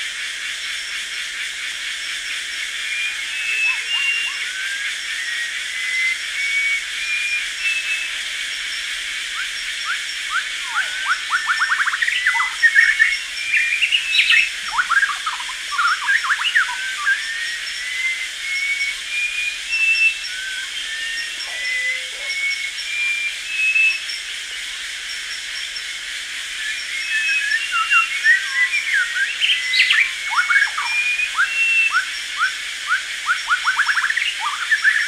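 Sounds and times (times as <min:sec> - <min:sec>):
high insect drone: 0:00.0 - 0:35.0
birds calling: 0:02.4 - 0:35.0
whistled bird notes: 0:02.8 - 0:24.8, 0:26.5 - 0:35.0.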